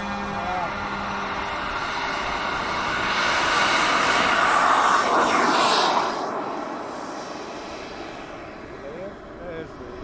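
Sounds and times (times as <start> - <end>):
model jet engine whine: 0.0 - 10.0.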